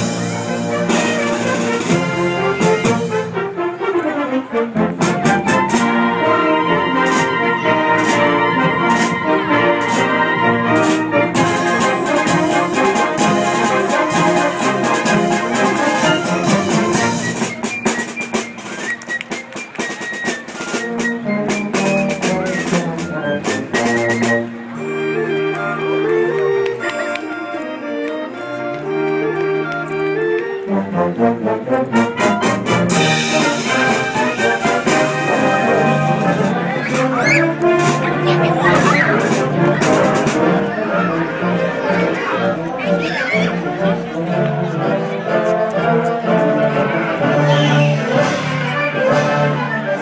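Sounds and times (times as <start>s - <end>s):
band music with brass and drums: 0.0s - 50.0s.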